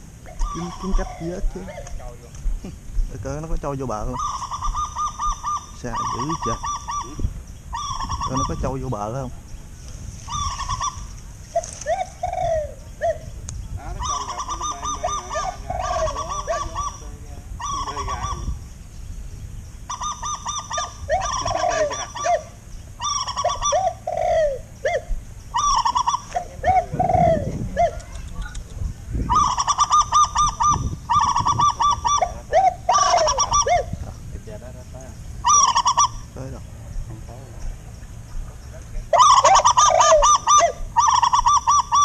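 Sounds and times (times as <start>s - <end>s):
birds honking calls: 0.0s - 42.0s.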